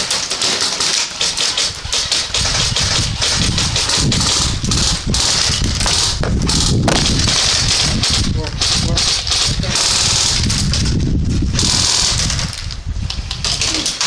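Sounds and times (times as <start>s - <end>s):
low rumble on microphone: 2.4s - 13.8s.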